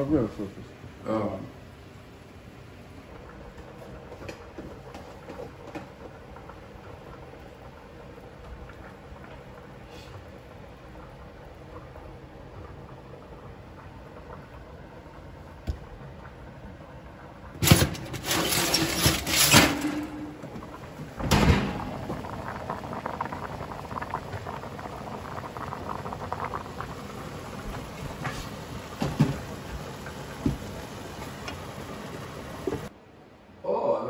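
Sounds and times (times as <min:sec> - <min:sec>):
pot of water boiling: 0:00.0 - 0:32.9.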